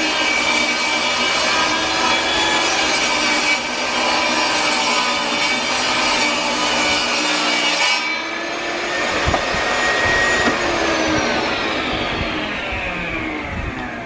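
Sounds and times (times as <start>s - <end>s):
saw blade whine coasting down: 0.0s - 14.0s
table saw cutting wood: 0.0s - 14.0s.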